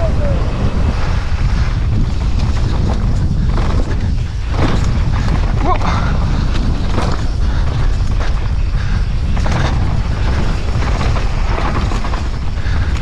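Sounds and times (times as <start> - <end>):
wind buffeting microphone: 0.0 - 13.0
bike rattling and knocking: 0.7 - 13.0.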